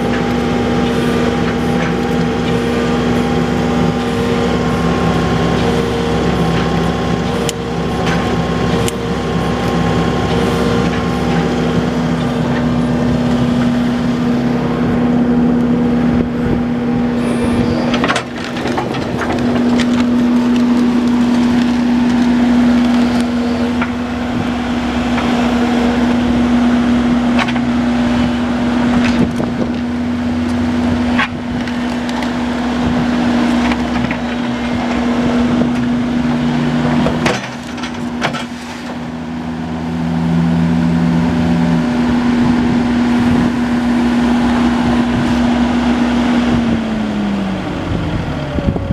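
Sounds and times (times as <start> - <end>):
excavator diesel engine running: 0.0 - 48.9
steady whine: 0.0 - 48.9.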